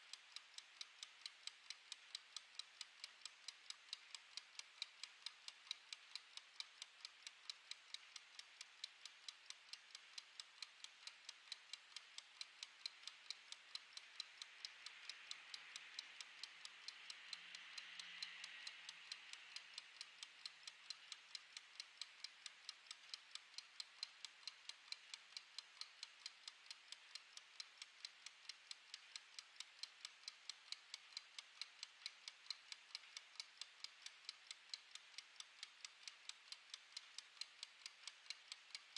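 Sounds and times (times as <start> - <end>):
kitchen timer ticking: 0.0 - 38.9.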